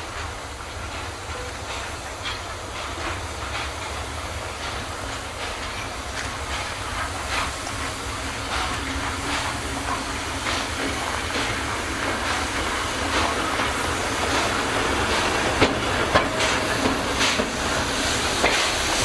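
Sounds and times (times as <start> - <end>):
hiss of steam: 0.0 - 19.0
steam locomotive exhaust chuffing: 0.0 - 19.0.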